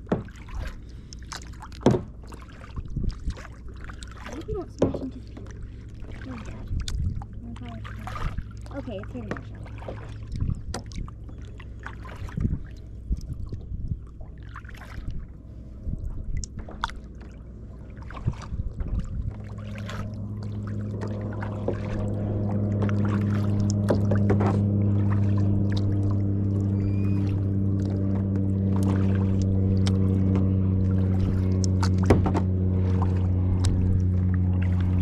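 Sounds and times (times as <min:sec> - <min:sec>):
paddle knocking against hull: 0:00.0 - 0:00.8, 0:01.6 - 0:12.7, 0:18.0 - 0:35.0
low engine hum: 0:00.0 - 0:35.0
paddle splashes and drips: 0:00.0 - 0:35.0.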